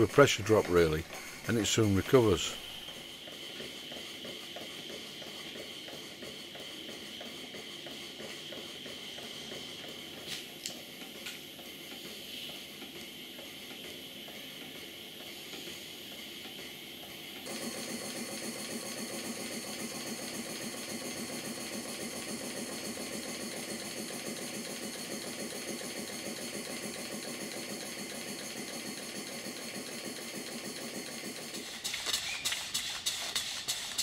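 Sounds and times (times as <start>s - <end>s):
model steam engine running: 0.0s - 34.0s.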